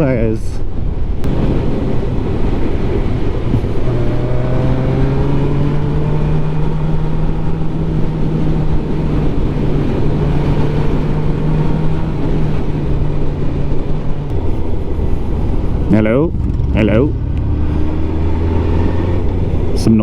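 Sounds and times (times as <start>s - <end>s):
wind rush: 0.0s - 20.0s
motorcycle engine running: 1.2s - 19.8s.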